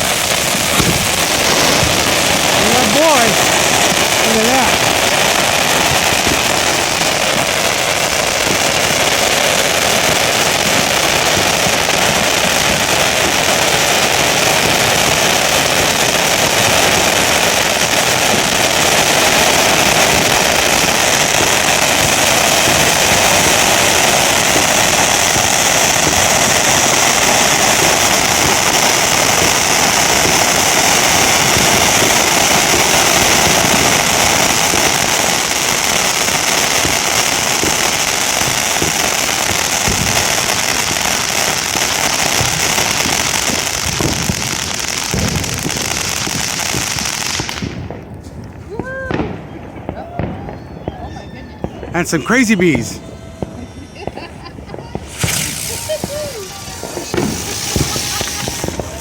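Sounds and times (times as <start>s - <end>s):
firework fountains hissing: 0.0s - 59.0s.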